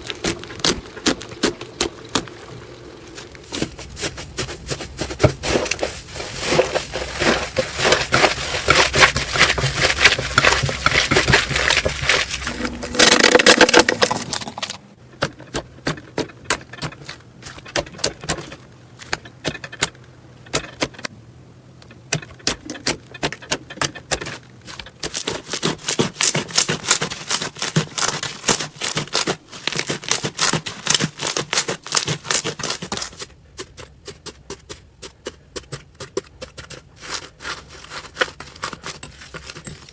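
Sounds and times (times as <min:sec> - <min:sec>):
slime squelch: 0:00.0 - 0:15.0, 0:22.4 - 0:39.9.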